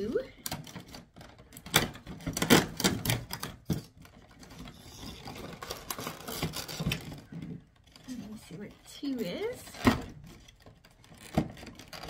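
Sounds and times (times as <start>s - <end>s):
cardboard rustling and scraping: 2.0s - 12.0s.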